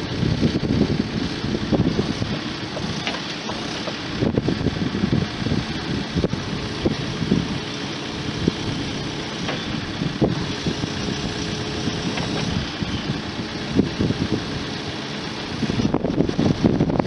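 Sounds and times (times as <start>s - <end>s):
diesel engine rumbling: 0.0s - 17.0s
wind noise on microphone: 0.0s - 17.0s.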